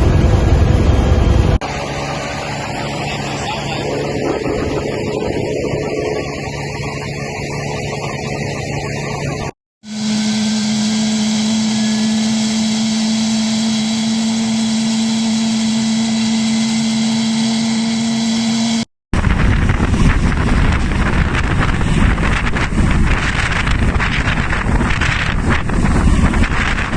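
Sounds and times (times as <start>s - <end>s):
helicopter running: 0.0s - 26.9s
rotor wash on microphone: 0.0s - 26.9s.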